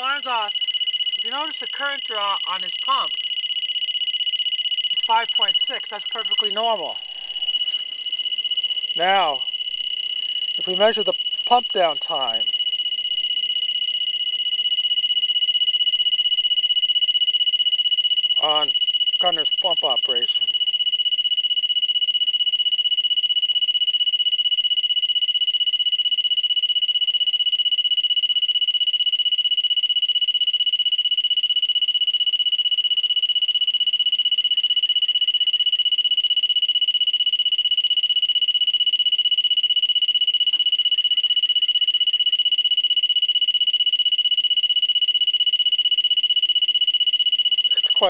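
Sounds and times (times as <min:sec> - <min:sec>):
high-pitched alarm tone: 0:00.0 - 0:24.4, 0:31.4 - 0:48.0.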